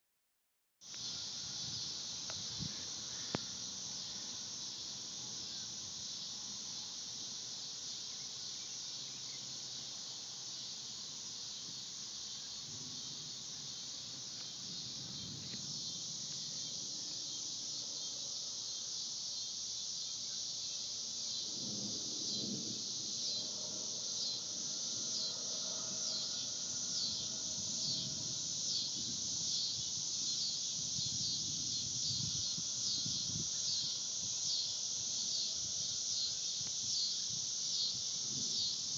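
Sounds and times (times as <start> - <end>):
insects droning: 0.8 - 38.9.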